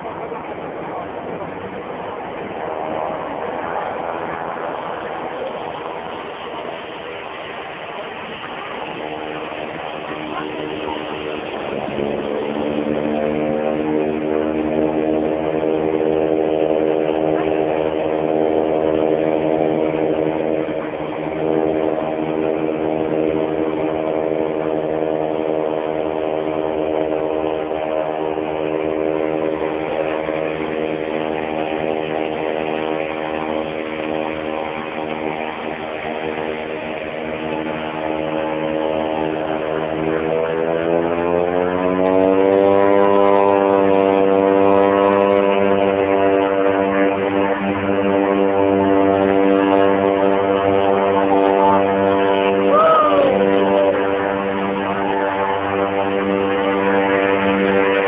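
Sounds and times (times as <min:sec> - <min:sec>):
turboprop engines running: 0:00.0 - 0:58.0.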